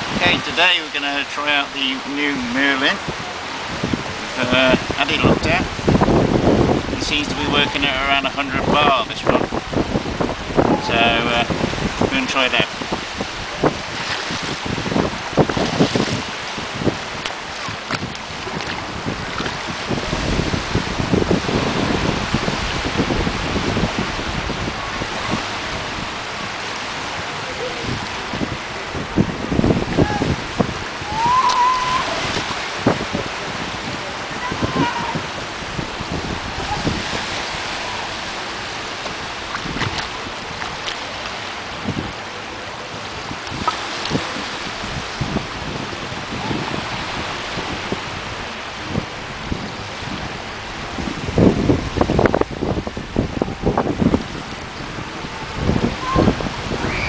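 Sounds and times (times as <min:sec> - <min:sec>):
small waves washing onto shore: 0:00.0 - 0:57.0
wind buffeting microphone: 0:00.0 - 0:57.0.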